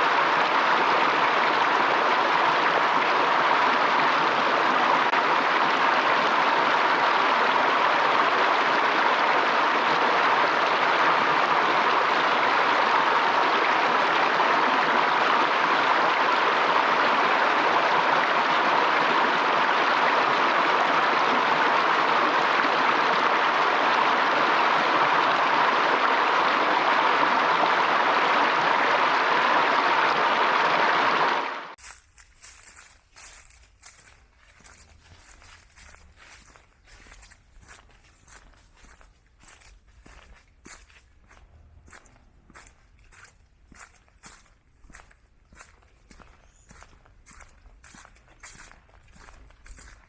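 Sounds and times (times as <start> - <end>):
water rushing: 0.0 - 31.8, 32.4 - 50.0.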